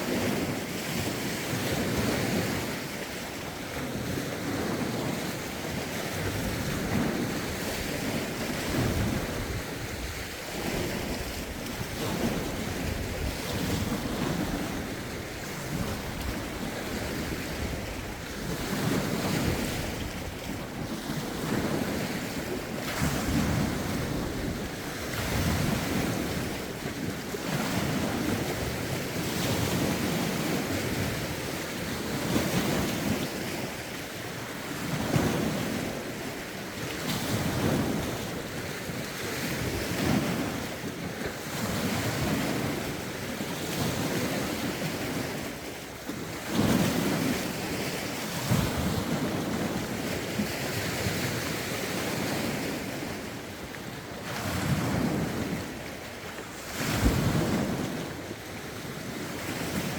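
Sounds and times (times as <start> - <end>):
lake waves washing in: 0.0 - 59.9
wind rumbling on microphone: 0.0 - 59.9.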